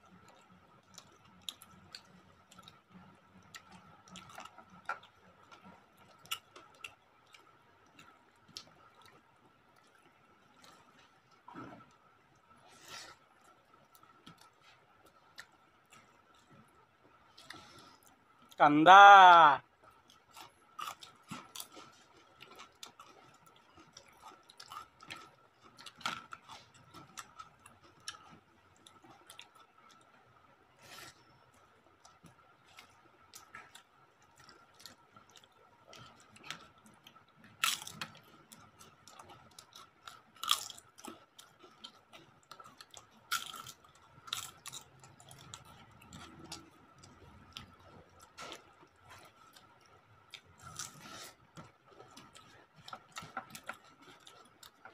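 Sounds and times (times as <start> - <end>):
chewing and crunching crisp food: 0.0 - 54.9.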